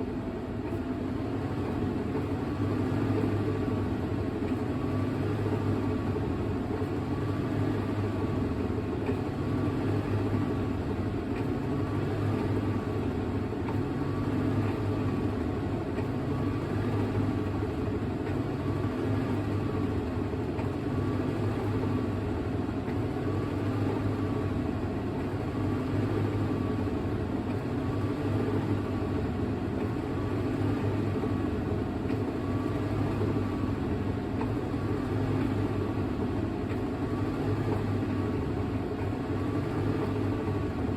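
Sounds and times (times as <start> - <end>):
washing machine spin hum: 0.0 - 40.9.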